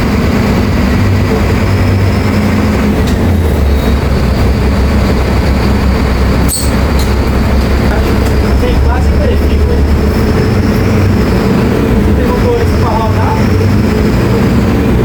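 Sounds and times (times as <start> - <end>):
bus diesel engine running: 0.0 - 15.0
road and body noise: 0.0 - 15.0.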